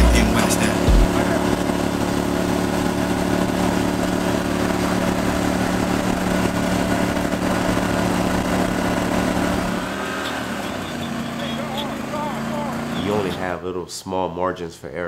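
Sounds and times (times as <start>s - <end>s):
boat motor running: 0.0s - 13.5s.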